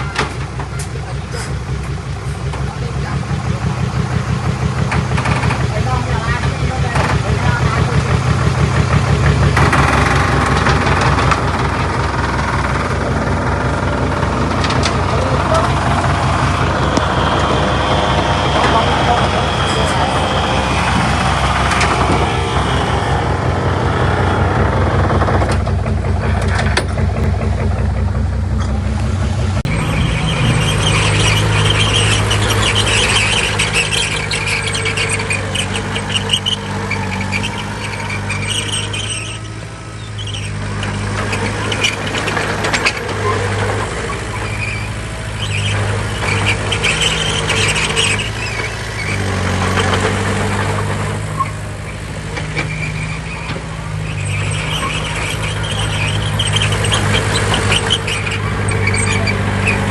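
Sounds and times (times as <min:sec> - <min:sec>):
steel tracks squealing and clanking: 0:00.0 - 0:28.9, 0:29.6 - 0:59.9
bulldozer diesel engine under load: 0:00.0 - 0:59.9.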